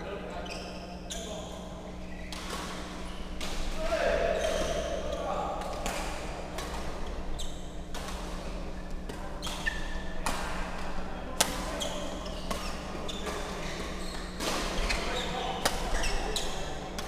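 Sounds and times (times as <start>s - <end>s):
low hum of hall: 0.0s - 17.0s
court shoes squeaking: 0.3s - 17.0s.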